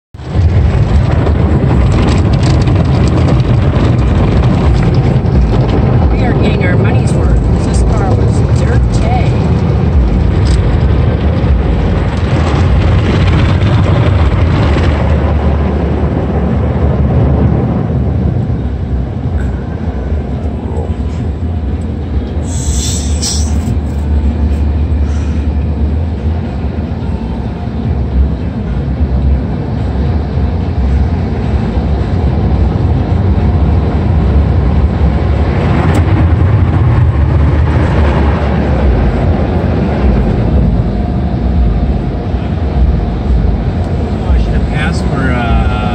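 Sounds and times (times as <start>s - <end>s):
car wash rumble: 0.2s - 45.9s.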